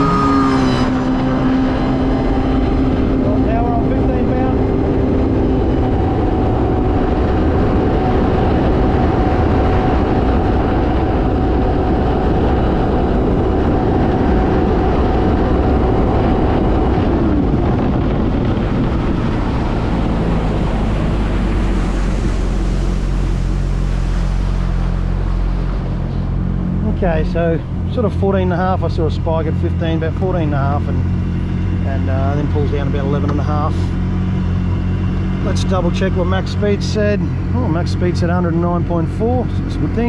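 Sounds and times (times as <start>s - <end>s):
jet ski engine at full throttle: 0.0s - 40.0s
water noise: 0.0s - 40.0s
wind noise: 0.0s - 40.0s.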